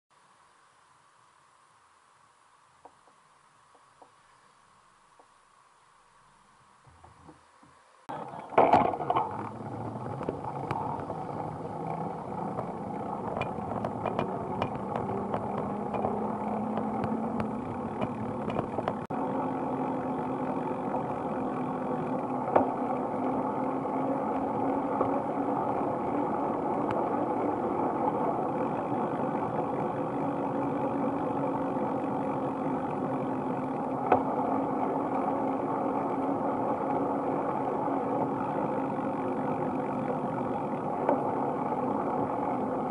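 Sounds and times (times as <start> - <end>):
wind: 0.1 - 42.9
bicycle rattling over bumps: 8.1 - 42.9
tyres rolling on wet path: 8.1 - 42.9.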